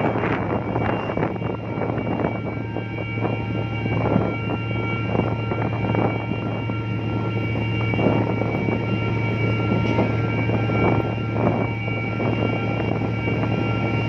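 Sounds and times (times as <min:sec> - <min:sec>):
ship diesel engines droning: 0:00.0 - 0:14.0
thin steady whine: 0:00.0 - 0:14.0.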